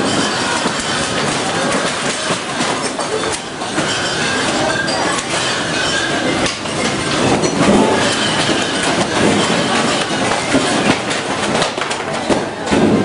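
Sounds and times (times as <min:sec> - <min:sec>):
shelves and goods rattling: 0:00.0 - 0:13.0.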